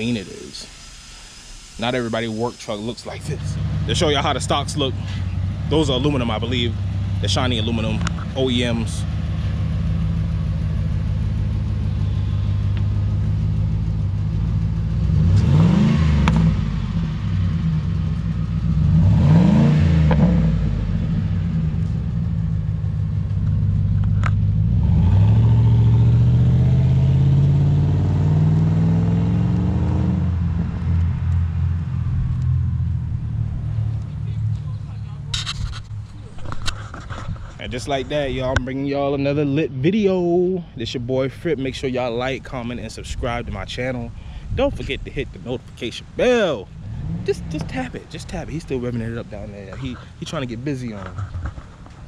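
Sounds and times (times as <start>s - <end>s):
pickup engine idling and revving: 0.0s - 52.0s.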